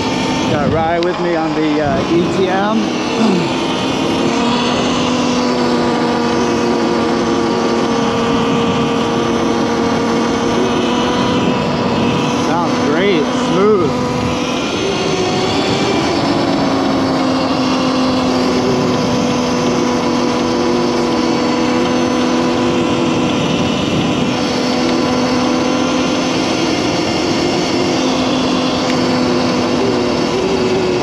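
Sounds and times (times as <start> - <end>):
electric motor whining: 0.0 - 31.0.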